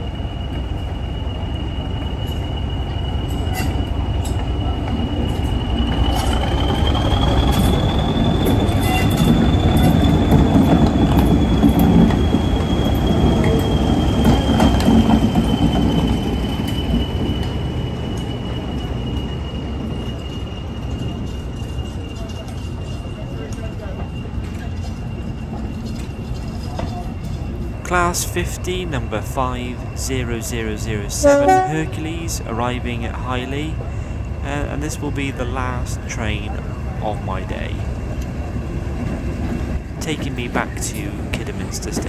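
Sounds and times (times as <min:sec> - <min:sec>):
diesel train rumble: 0:00.0 - 0:42.0.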